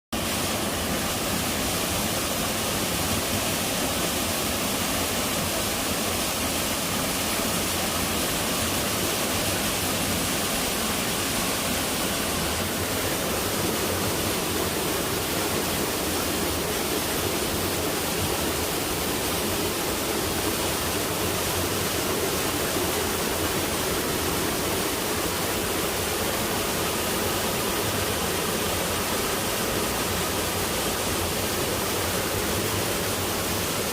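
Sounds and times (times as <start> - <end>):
waterfall pouring: 0.2 - 33.9.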